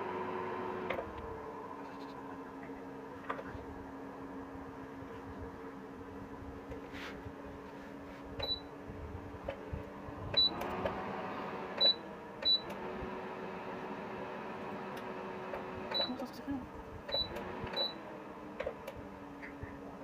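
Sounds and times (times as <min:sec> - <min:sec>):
heater humming: 0:00.0 - 0:20.0.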